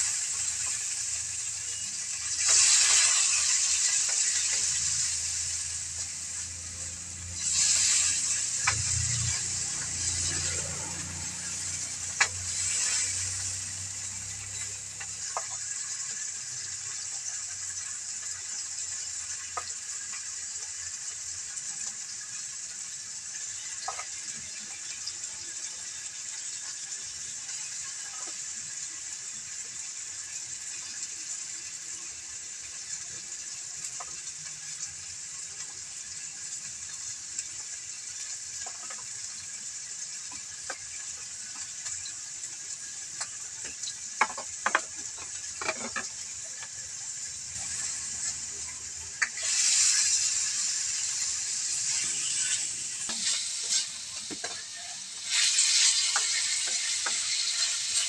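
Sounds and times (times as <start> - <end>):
oil sizzling in a wok: 0.0 - 58.0.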